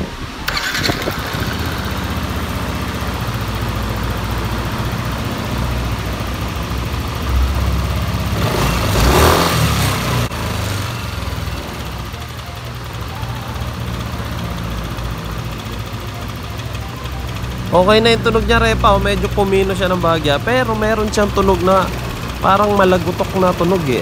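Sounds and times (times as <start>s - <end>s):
scooter engine starting and idling: 0.0s - 24.0s
engine knocking: 0.5s - 24.0s.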